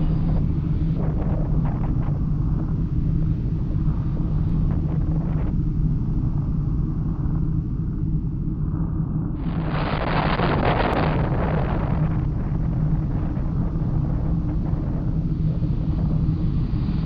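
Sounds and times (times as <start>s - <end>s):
low rumble with deep hum: 0.0s - 17.0s.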